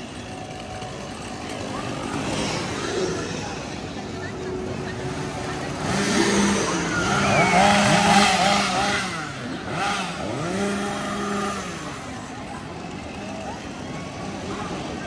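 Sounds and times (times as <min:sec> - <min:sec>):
chainsaw engines revving: 0:00.0 - 0:15.0.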